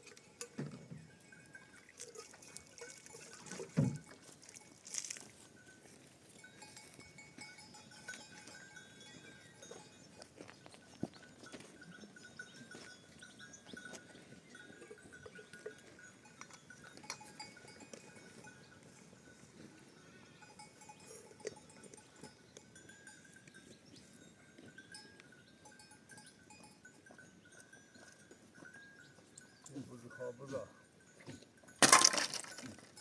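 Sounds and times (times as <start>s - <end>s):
livestock bells ringing: 0.0s - 33.0s.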